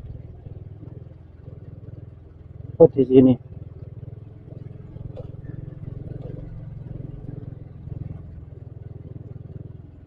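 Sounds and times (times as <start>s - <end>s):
vehicle engine throbbing: 0.0s - 10.0s.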